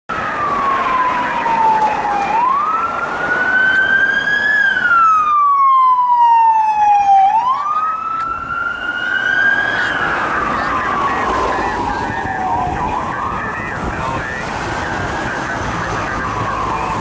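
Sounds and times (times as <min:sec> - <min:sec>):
police siren wailing: 0:00.1 - 0:17.0
road noise: 0:00.1 - 0:17.0.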